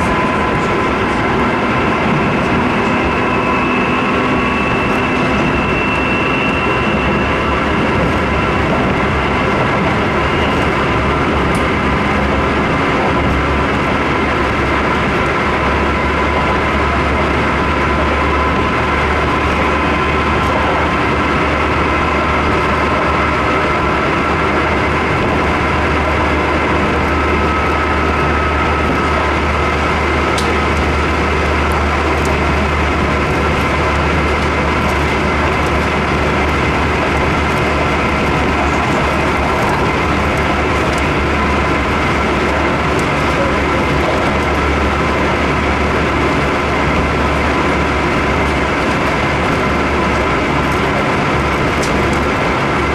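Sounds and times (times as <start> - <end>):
train rolling noise: 0.0 - 52.9.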